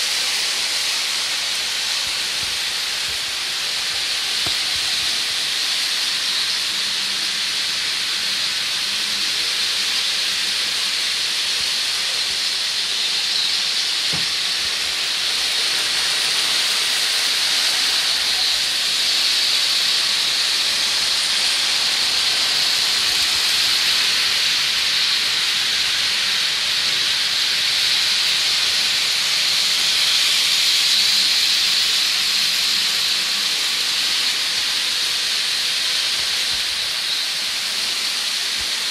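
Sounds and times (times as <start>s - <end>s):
toy trains whirring on plastic track: 0.0s - 38.9s.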